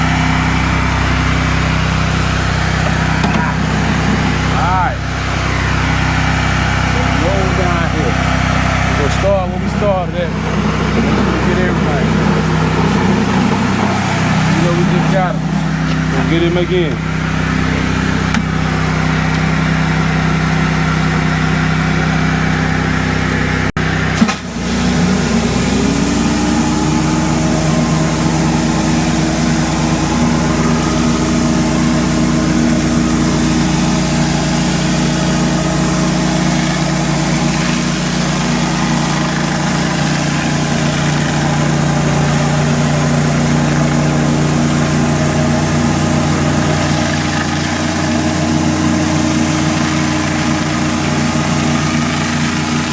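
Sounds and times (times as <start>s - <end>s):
pressure washer engine running: 0.0s - 52.9s.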